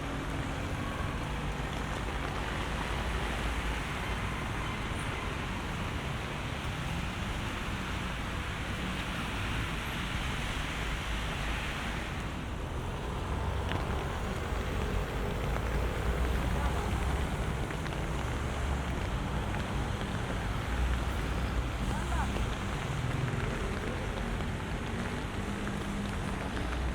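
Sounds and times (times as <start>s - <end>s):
rain: 0.0s - 26.9s.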